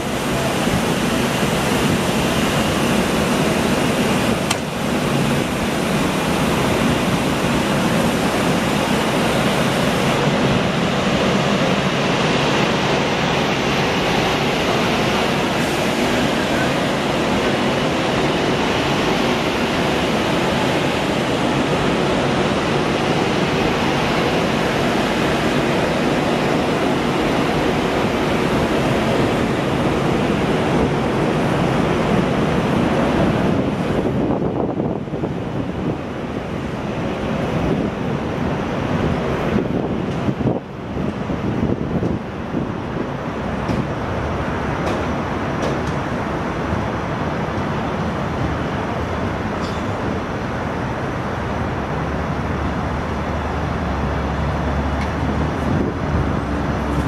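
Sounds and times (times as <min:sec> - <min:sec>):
electric locomotive passing: 0:00.0 - 0:57.0
train coaches rolling past: 0:00.0 - 0:57.0.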